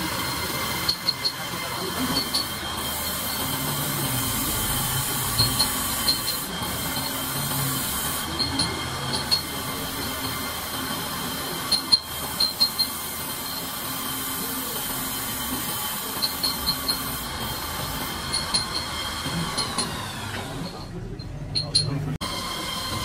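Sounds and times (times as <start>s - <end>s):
steel bar grinding on belt: 0.0s - 20.9s, 21.6s - 23.0s
belt grinder whining: 0.0s - 21.0s, 21.6s - 23.0s.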